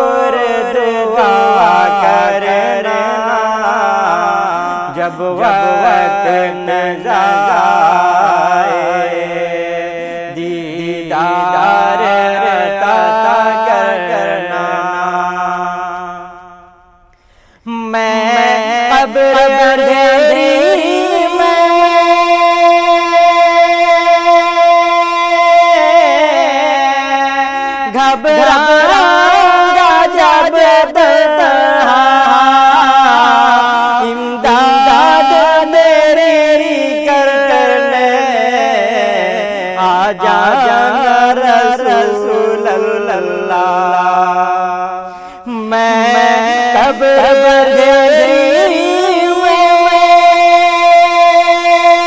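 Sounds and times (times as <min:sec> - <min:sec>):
person singing ornamented melody: 0:00.0 - 0:16.8, 0:17.7 - 0:52.0.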